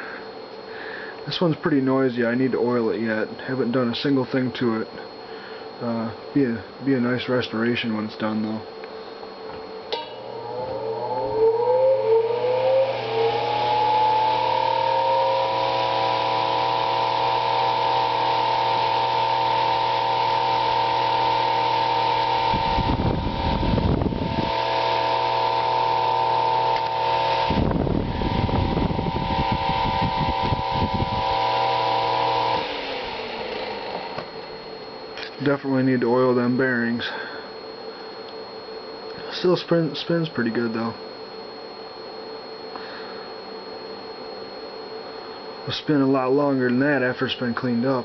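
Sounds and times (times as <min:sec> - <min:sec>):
electric fan motor whine: 0:00.0 - 0:48.0
low electrical hum: 0:00.0 - 0:48.0.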